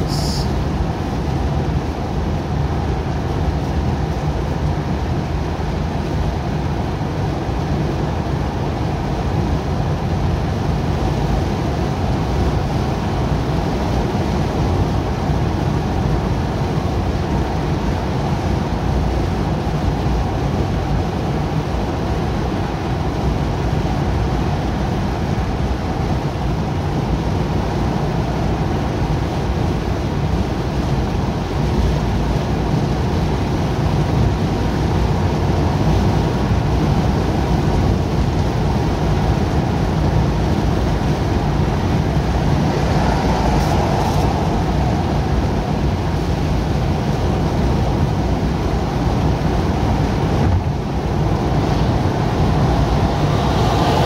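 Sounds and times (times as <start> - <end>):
low engine hum: 0.0 - 54.0
road and tyre noise: 0.0 - 54.0.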